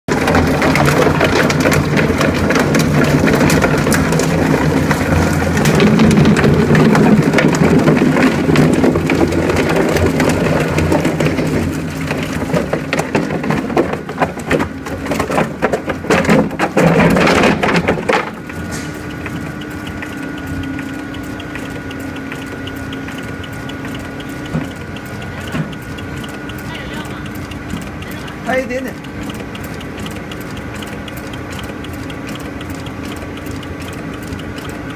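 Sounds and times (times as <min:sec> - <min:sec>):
shredder grinding plastic: 0:00.1 - 0:32.0.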